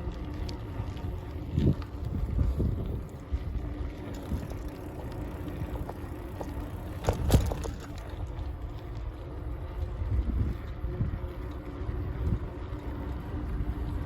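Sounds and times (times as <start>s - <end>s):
bicycle rolling noise: 0.0s - 14.0s
wind rumble on microphone: 0.0s - 14.0s.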